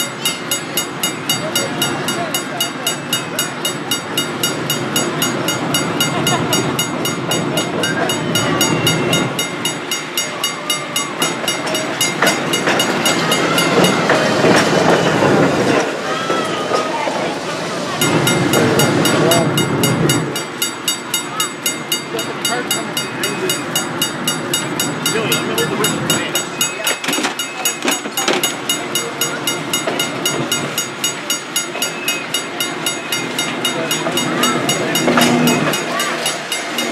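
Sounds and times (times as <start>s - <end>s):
electric trolley running on track: 0.0s - 36.9s.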